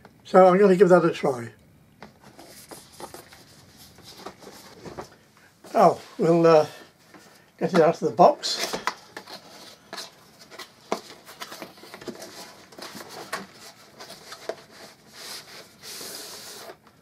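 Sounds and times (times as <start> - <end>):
cardboard and plastic rustling: 2.0 - 6.4, 7.1 - 17.0.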